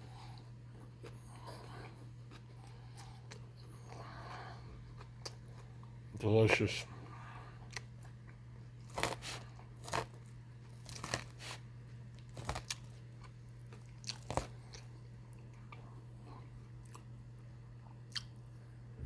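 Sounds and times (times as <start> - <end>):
person chewing salad crunching: 0.1 - 6.0, 7.1 - 18.6.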